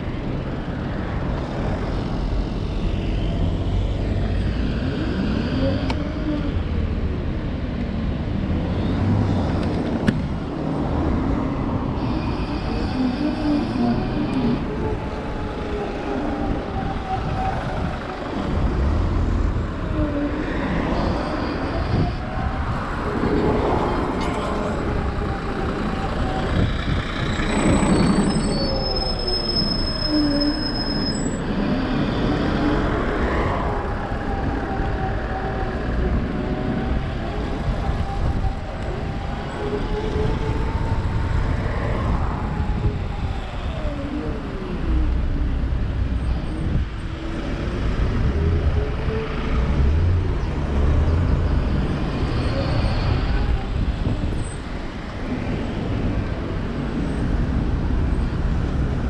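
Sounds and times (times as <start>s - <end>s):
road rumble: 0.0s - 59.0s
wind: 0.0s - 59.0s.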